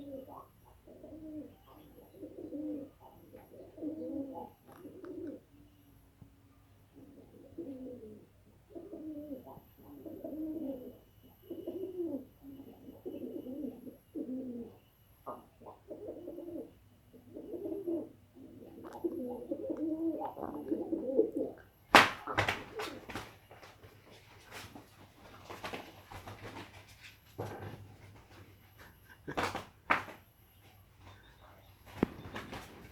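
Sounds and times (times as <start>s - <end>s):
dove cooing: 0.0s - 5.8s, 6.8s - 24.6s, 25.4s - 32.9s.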